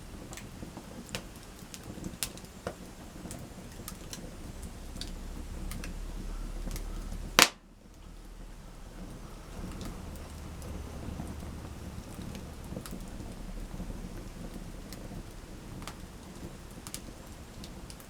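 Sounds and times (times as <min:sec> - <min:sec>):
campfire crackling: 0:00.0 - 0:18.0
sharp pops of fire: 0:00.1 - 0:18.0.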